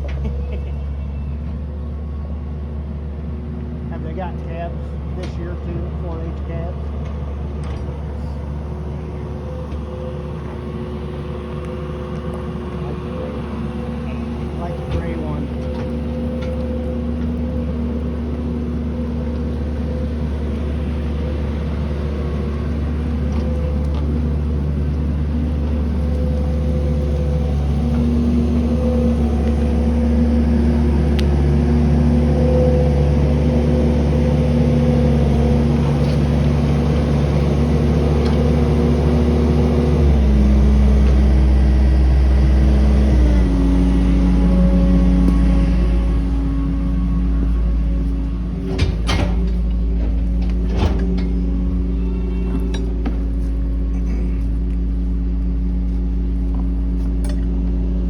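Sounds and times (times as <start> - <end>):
pickup truck engine running: 3.0 - 58.0.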